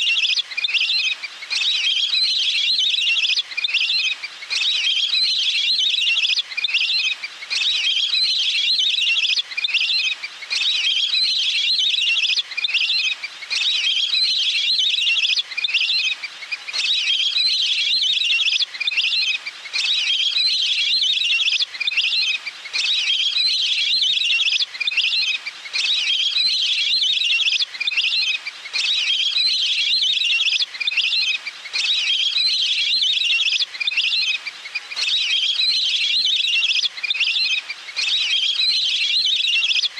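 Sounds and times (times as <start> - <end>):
waterfowl chattering whistles: 0.0 - 39.9.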